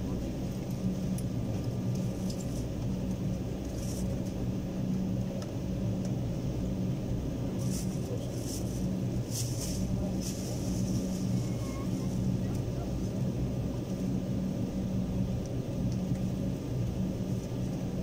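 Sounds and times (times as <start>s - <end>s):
airliner cabin engine hum: 0.0s - 18.0s.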